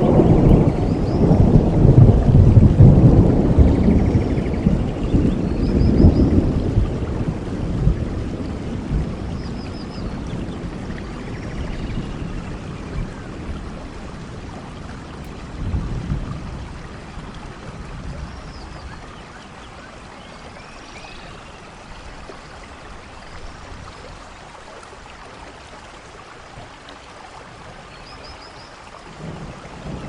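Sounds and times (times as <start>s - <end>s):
rain and trickling water: 0.0s - 30.0s.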